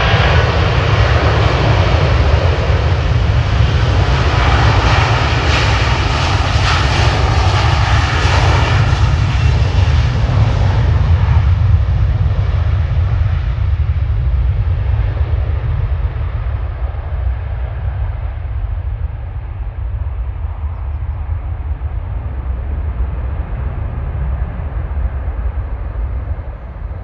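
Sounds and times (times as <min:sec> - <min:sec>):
jet airliner roaring past: 0:00.0 - 0:27.0.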